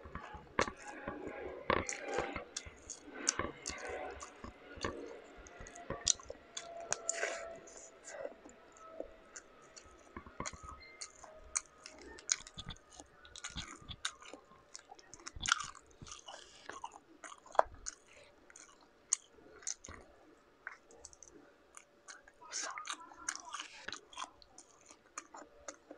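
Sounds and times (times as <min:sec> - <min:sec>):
person chewing: 0:00.0 - 0:25.9.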